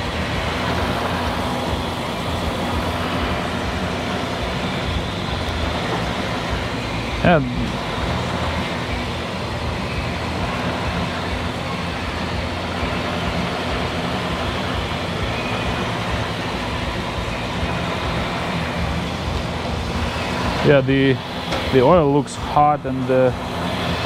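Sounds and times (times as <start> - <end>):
car engine idling: 0.0 - 24.0
hydraulic pump whirring: 0.0 - 24.0.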